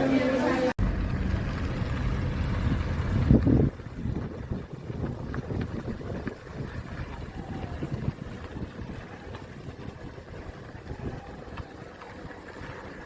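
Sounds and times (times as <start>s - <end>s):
heavy rain: 0.0s - 13.0s
water pouring from gutters: 0.0s - 13.0s.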